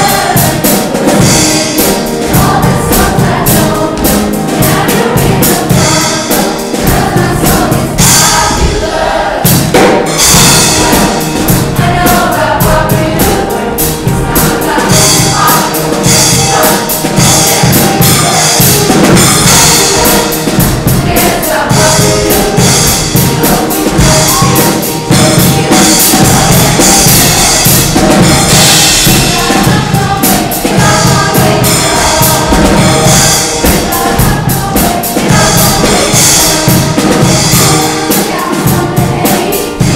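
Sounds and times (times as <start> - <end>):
choir singing: 0.0 - 39.9
drum kit beat: 0.0 - 39.9.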